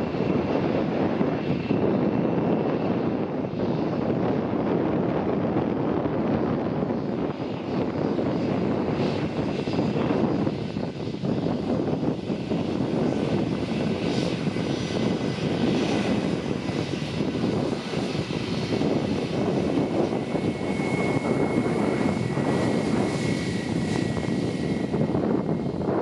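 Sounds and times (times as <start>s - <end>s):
jet engines running at low thrust: 0.0s - 26.0s.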